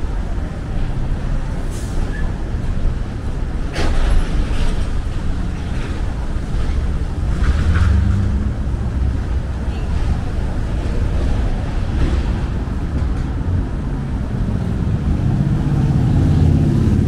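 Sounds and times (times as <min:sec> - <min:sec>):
vehicle engine hum: 0:00.0 - 0:17.0
cars driving past: 0:00.1 - 0:17.0.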